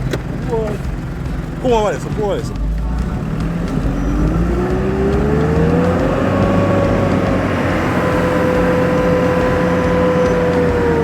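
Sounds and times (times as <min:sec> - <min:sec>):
car engine pulling away: 0:00.0 - 0:11.0
drivetrain whine: 0:00.0 - 0:11.0
low road rumble: 0:00.0 - 0:11.0.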